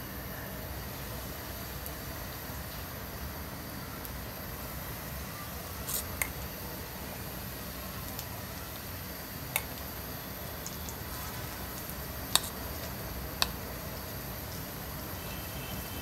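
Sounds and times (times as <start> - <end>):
batter sizzling in oil: 0.0 - 16.0.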